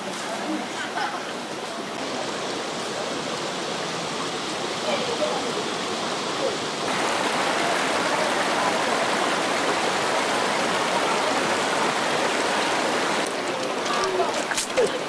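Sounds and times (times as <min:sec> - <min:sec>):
stream rushing over stones: 0:00.0 - 0:15.0.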